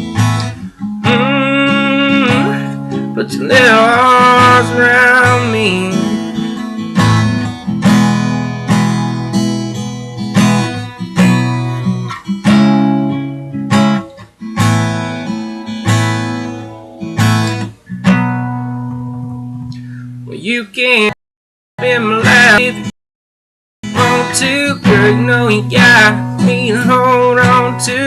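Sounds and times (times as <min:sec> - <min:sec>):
acoustic guitar strumming chords: 0:00.0 - 0:21.1, 0:21.8 - 0:22.9, 0:23.8 - 0:28.0.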